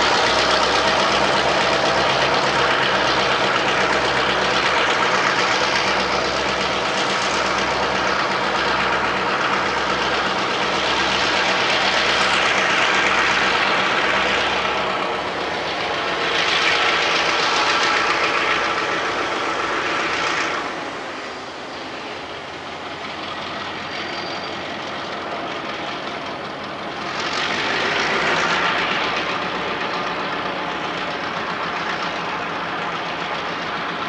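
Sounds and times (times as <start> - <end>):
diesel locomotive engines running: 0.0 - 34.0
train wheels rolling on rails: 0.0 - 34.0.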